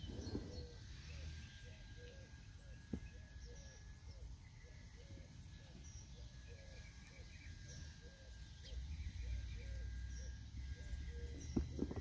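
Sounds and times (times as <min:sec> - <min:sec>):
repeating low bird call: 0:00.4 - 0:11.7.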